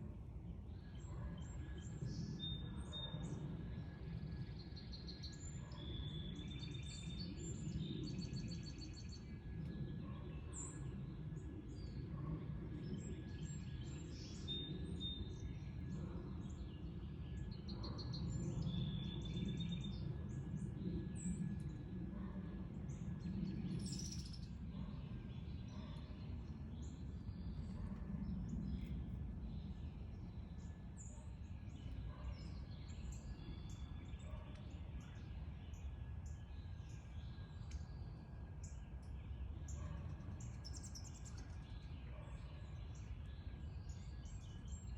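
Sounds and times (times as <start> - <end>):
songbirds chirping: 0.0 - 44.9.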